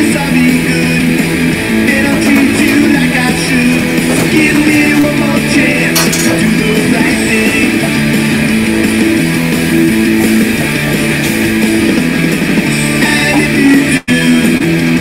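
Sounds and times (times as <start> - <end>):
punk rock electric guitar: 0.0 - 15.0.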